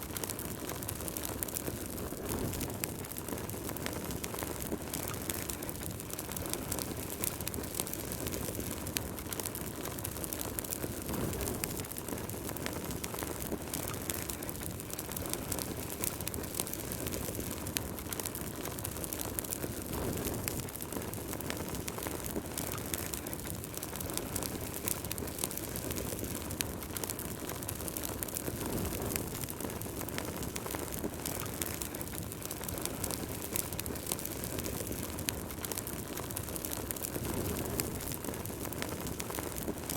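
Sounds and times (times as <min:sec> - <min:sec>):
rush of burning flames: 0:00.0 - 0:39.9
wood fire pops and snaps: 0:00.0 - 0:39.9.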